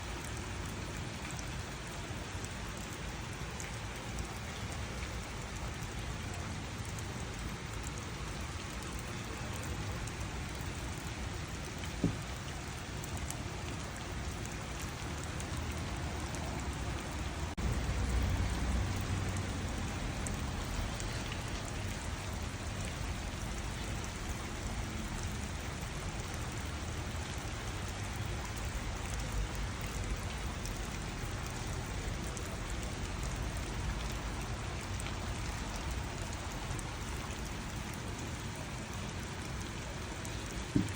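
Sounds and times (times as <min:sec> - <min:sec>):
raindrops ticking: 0:00.0 - 0:40.9
steady rain falling: 0:00.0 - 0:40.9.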